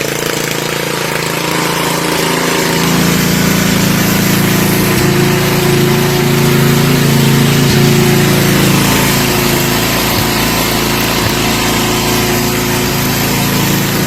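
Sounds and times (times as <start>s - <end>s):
riding mower engine running: 0.0s - 14.0s.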